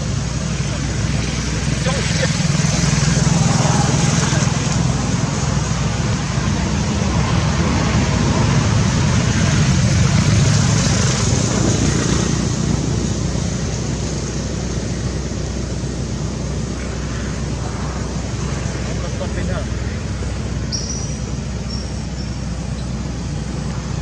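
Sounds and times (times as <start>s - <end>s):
motor vehicle passing: 0.0s - 24.0s.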